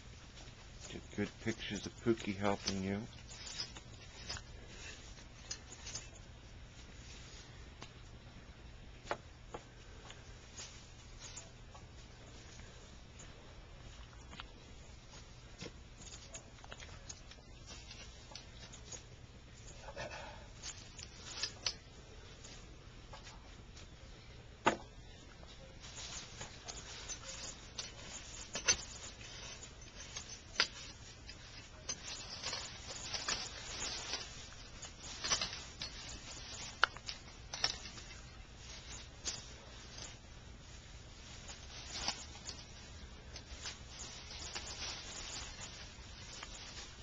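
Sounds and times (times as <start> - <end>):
hands rustling through dry leaves: 0.0 - 8.0, 9.5 - 24.1, 25.1 - 47.0.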